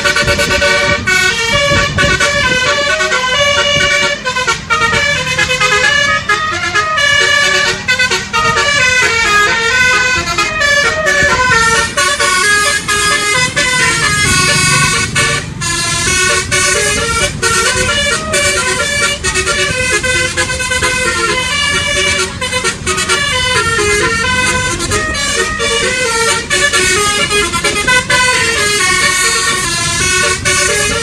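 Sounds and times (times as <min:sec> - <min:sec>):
air horn trumpets playing tune: 0:00.0 - 0:31.0.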